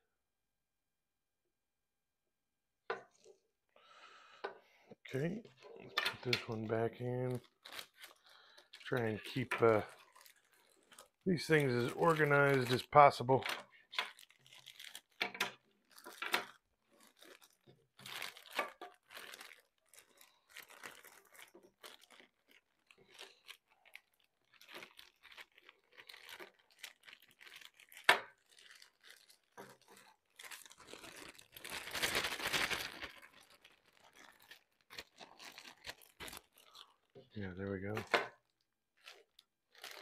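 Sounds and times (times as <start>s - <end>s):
plastic bag crinkling: 5.1s - 40.0s.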